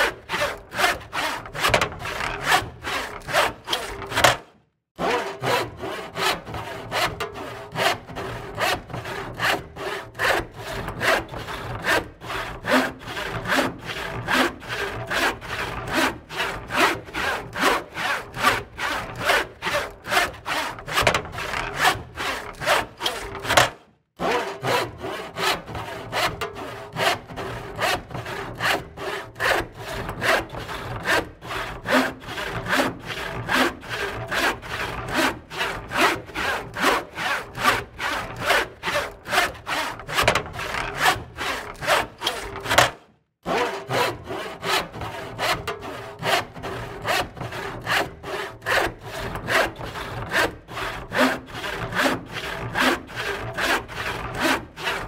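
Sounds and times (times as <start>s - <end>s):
handsaw cutting wood: 0.0s - 55.0s.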